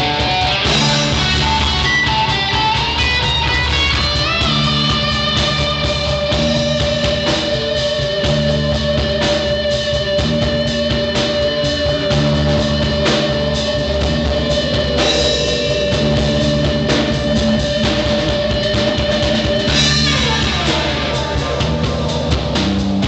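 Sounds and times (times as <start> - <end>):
electric guitar lead line: 0.0 - 23.0
live rock band playing: 0.0 - 23.0.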